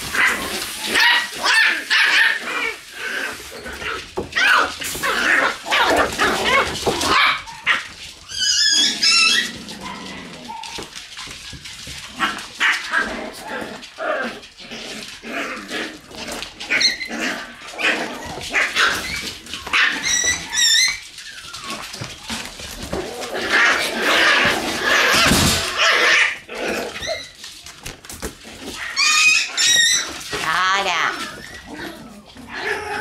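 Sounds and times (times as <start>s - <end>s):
puppies yipping and barking: 0.0s - 33.0s.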